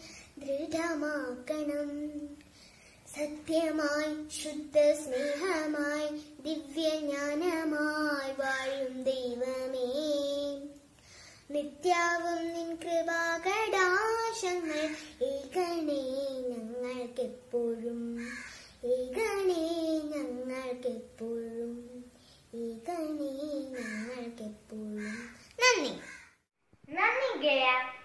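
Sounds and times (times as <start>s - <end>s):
girl singing unaccompanied: 0.0s - 26.0s.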